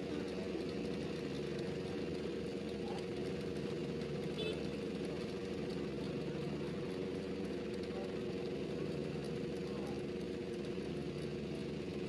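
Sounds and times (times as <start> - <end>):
ship diesel engines idling: 0.0 - 12.0.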